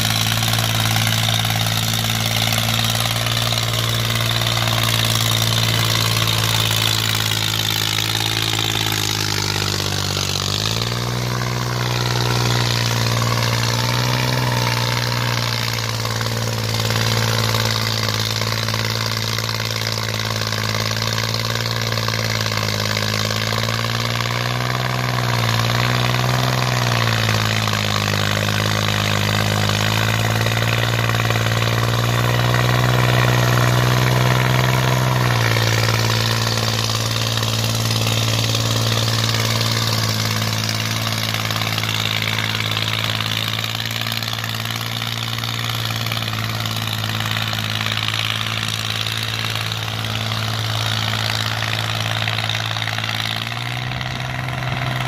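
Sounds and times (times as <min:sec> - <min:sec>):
engine chugging: 0:00.0 - 0:55.0.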